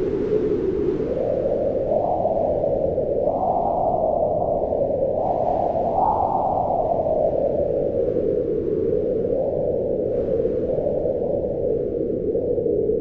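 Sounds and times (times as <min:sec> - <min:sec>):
strong wind blowing: 0:00.0 - 0:13.0.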